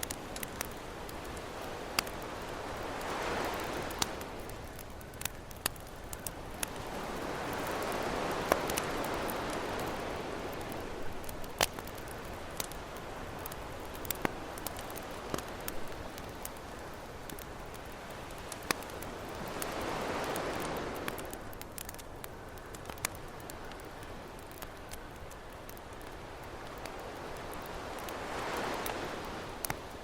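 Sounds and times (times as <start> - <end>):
campfire crackling and popping: 0.0 - 30.0
ocean waves washing ashore: 0.0 - 30.0.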